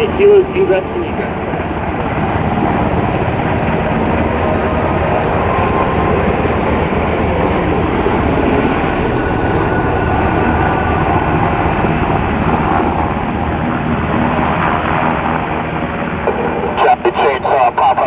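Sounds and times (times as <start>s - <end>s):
helicopters running: 0.0s - 18.0s
jet aircraft engines: 0.0s - 18.0s.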